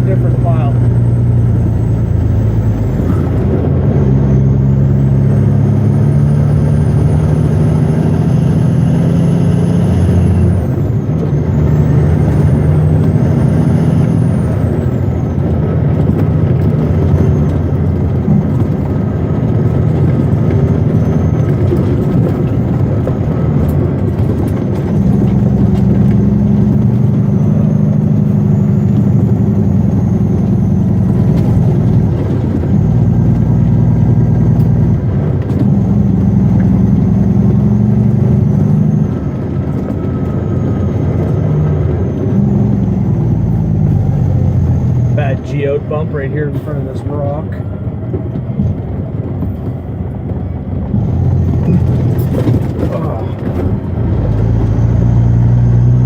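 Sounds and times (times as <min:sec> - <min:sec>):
truck diesel engine pulling: 0:00.0 - 0:56.0.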